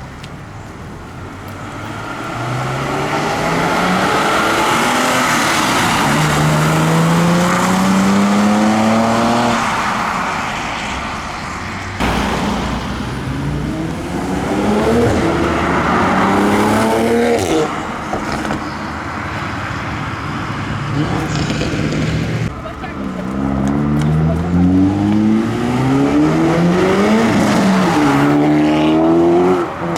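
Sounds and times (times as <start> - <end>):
car engines accelerating hard: 0.0 - 29.9.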